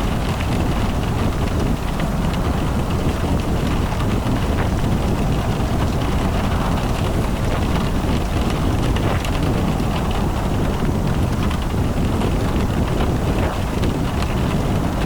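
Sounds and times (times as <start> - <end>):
rain pattering: 0.0 - 15.0
road and wind rumble: 0.0 - 15.0.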